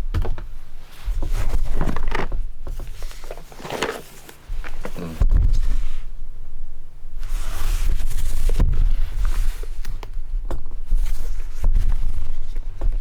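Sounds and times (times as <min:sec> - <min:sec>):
low rumble of box handling: 0:00.0 - 0:06.6, 0:07.2 - 0:13.0.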